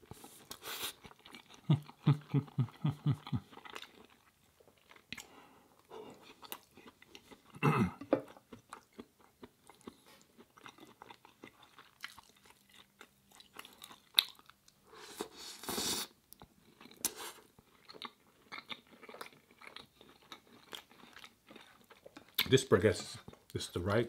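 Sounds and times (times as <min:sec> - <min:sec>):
person chewing with wet clicks: 0:00.4 - 0:07.6, 0:08.2 - 0:14.8, 0:16.3 - 0:22.5.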